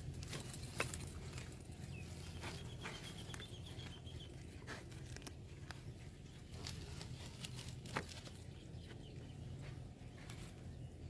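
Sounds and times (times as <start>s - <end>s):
pig rooting in wet soil: 0.0s - 11.0s.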